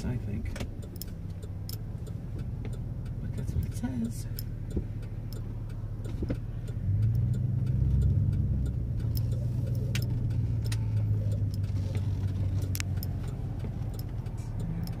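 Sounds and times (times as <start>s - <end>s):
truck cabin road and engine hum: 0.0s - 15.0s.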